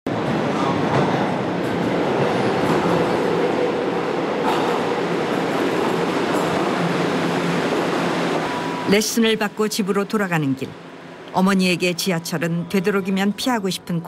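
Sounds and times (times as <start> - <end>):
train wheels rumbling on rail: 0.1 - 11.4.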